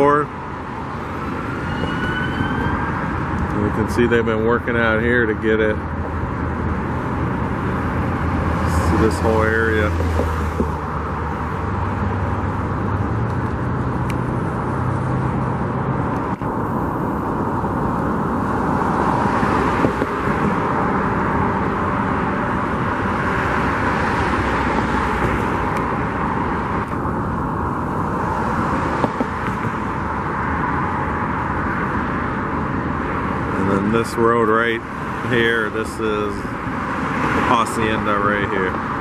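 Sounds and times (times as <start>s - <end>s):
car engine: 0.0s - 39.0s.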